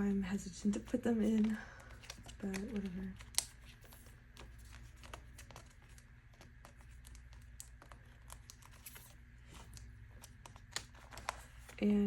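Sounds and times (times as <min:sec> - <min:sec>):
plastic crinkling: 0:00.4 - 0:12.0.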